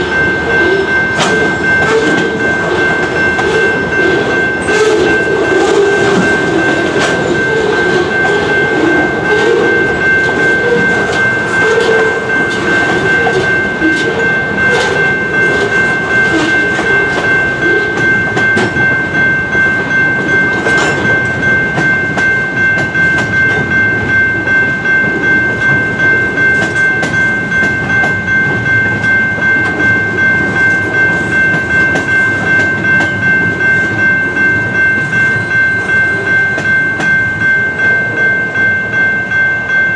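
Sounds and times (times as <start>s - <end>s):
electronic crossing bell ringing: 0.0s - 39.9s
freight train wheels clickety-clack: 0.0s - 39.9s.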